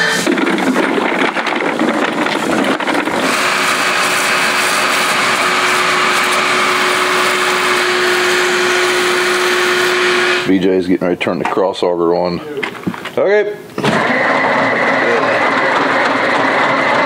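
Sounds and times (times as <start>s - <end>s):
shop vacuum sucking water: 0.0s - 10.6s, 13.8s - 17.0s.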